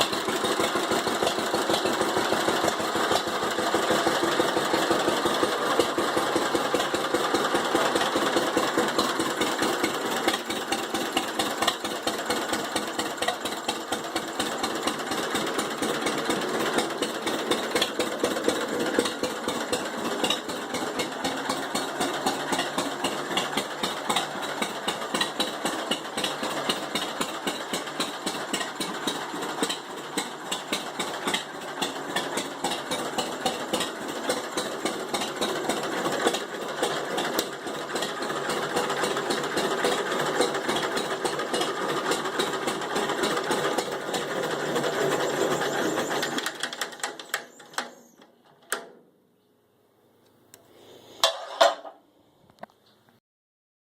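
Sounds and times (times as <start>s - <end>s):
tractor engine idling: 0.0s - 48.2s.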